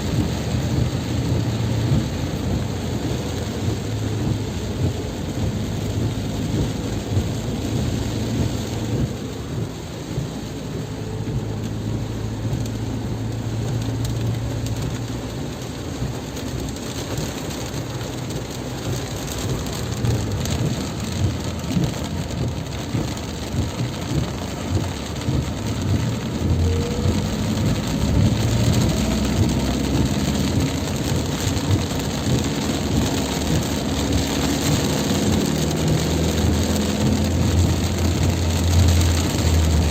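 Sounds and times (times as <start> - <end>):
heavy rain pouring: 0.0 - 39.9
low continuous rumble: 0.0 - 39.9.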